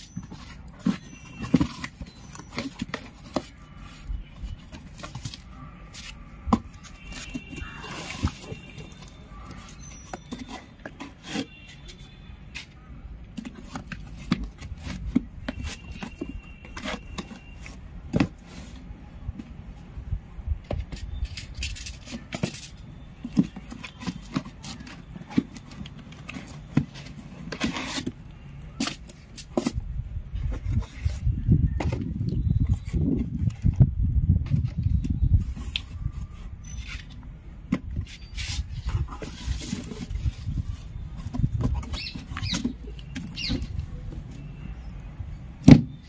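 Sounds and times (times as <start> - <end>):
cardboard boxes tapping and scraping: 0.0 - 19.8, 20.6 - 44.6, 45.4 - 46.0.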